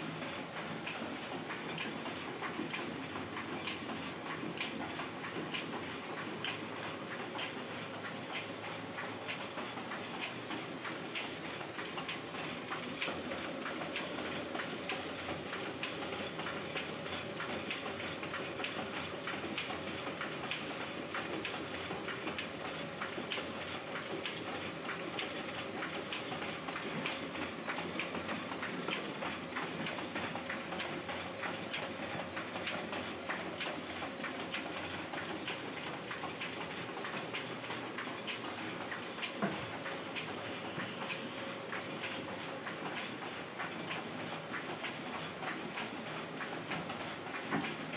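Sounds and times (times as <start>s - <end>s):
printing press clattering: 0.0s - 47.9s.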